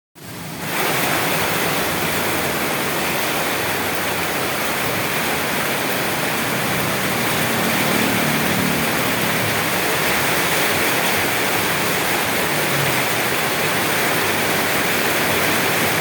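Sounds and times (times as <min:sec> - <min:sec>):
heavy rain: 0:00.2 - 0:16.0.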